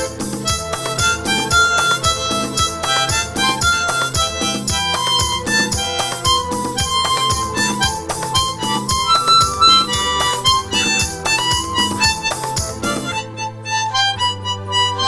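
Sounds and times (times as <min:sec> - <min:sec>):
amplified harmonica melody: 0:00.0 - 0:15.0
backing track with beat and bass: 0:00.0 - 0:15.0.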